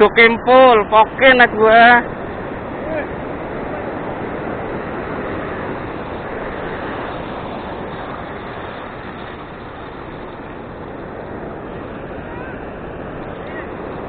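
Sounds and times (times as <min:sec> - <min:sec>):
surf rushing: 0:00.0 - 0:14.0
wind buffeting microphone: 0:00.0 - 0:14.0.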